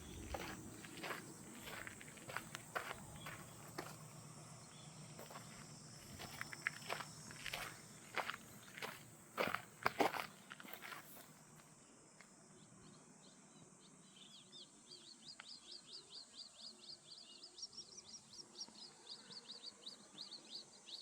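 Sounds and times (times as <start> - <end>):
songbird chirping: 0.0 - 11.6, 12.5 - 21.0.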